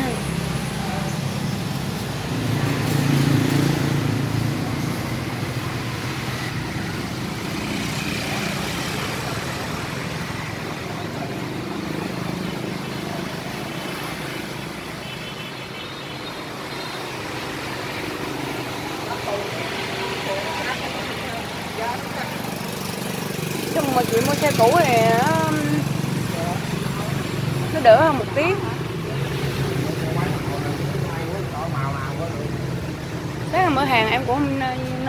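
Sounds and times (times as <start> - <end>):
motorbikes and scooters passing: 0.0 - 35.0.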